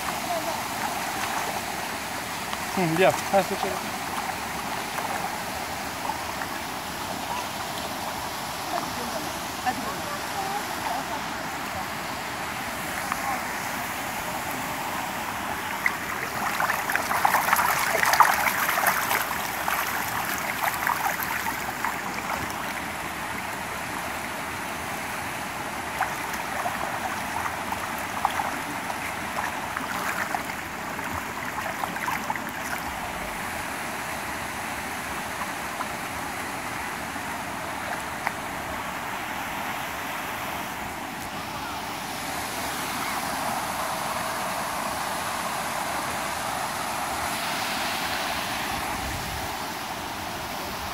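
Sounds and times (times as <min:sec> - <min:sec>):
water rushing through channels: 0:00.0 - 0:50.9.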